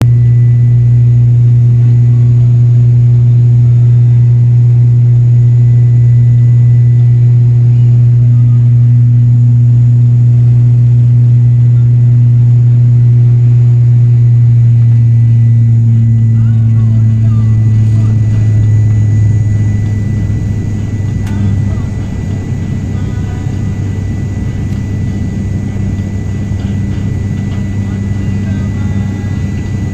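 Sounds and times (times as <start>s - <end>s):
aircraft engine drone in cabin: 0.0s - 29.9s.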